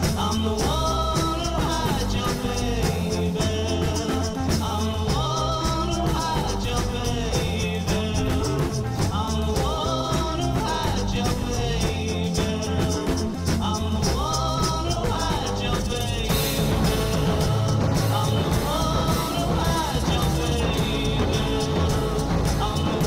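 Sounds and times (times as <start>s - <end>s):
upbeat song with drums and bass: 0.0s - 23.0s.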